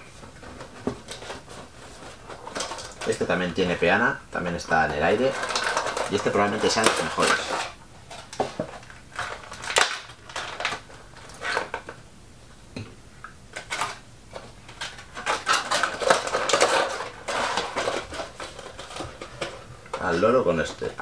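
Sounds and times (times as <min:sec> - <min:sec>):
plastic packaging crinkling: 0:00.0 - 0:12.0, 0:13.6 - 0:21.0.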